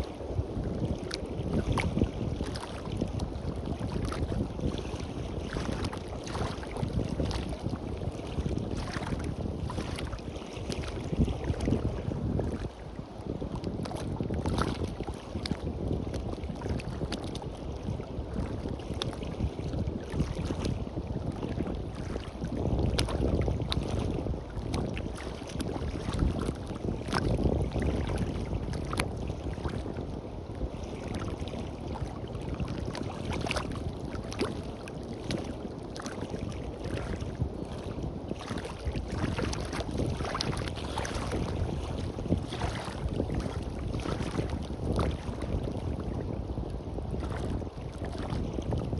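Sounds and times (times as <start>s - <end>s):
small waves lapping at shore: 0.0s - 48.9s
wind rumbling on microphone: 0.0s - 48.9s.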